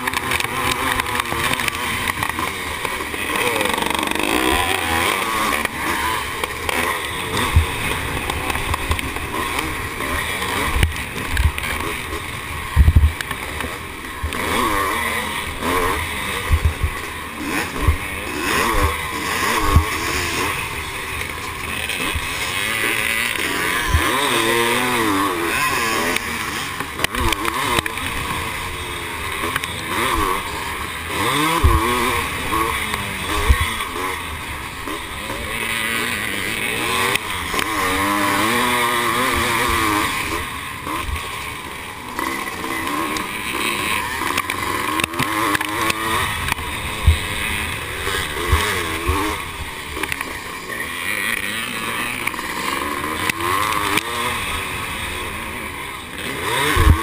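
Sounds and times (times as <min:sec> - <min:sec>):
motorcycle engine racing: 0:00.0 - 0:57.0.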